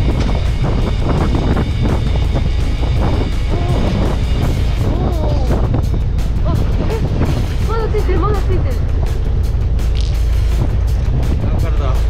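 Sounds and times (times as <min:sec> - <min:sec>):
background music: 0:00.0 - 0:12.0
boat engine: 0:00.0 - 0:12.0
wind on microphone: 0:00.0 - 0:12.0.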